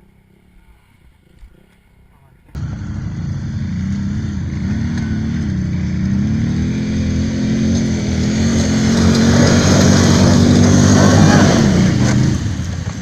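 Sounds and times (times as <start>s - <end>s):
atv engine revving: 2.6s - 13.0s.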